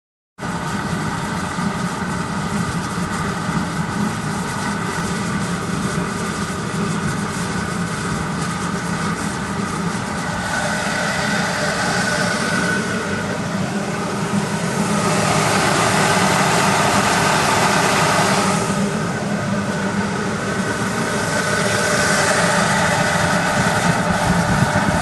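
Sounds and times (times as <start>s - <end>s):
gas heater roaring: 0.4s - 25.0s
high whine: 0.4s - 25.0s.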